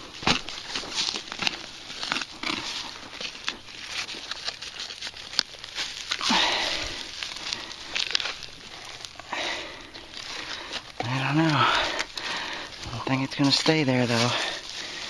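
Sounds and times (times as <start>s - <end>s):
digging in soil: 0.0s - 15.0s.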